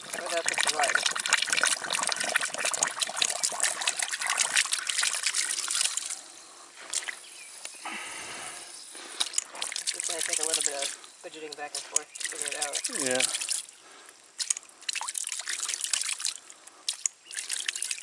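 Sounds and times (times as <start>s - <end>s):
water spraying and splattering: 0.0s - 6.2s, 6.8s - 7.2s, 9.0s - 13.7s, 14.4s - 18.0s
water trickling: 0.0s - 7.3s, 8.9s - 18.0s.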